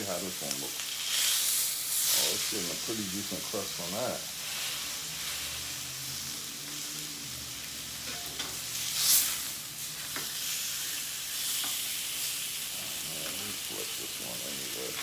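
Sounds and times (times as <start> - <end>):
steaks sizzling in a skillet: 0.0 - 15.0.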